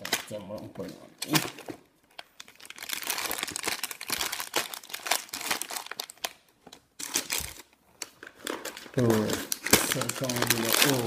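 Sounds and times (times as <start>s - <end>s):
paper and plastic crinkling: 0.0s - 11.0s.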